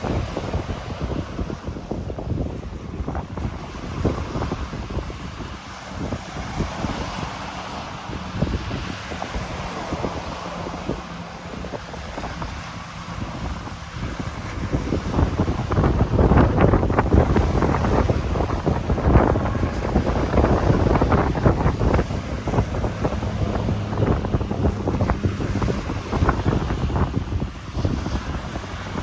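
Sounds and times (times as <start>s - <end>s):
ocean waves breaking: 0.0s - 29.0s
wind buffeting microphone: 0.0s - 29.0s.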